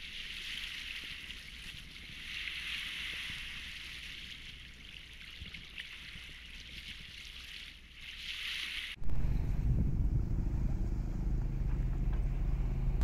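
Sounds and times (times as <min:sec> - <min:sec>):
sea water washing around hull: 0:00.0 - 0:13.0.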